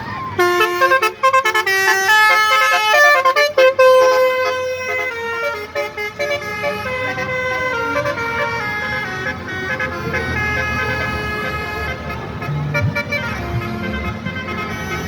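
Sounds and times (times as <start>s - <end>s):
bus musical air horn: 0.0s - 15.0s.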